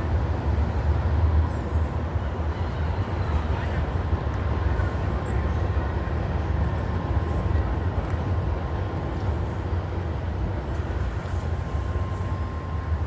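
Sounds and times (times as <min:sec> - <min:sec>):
city background rumble: 0:00.0 - 0:13.0.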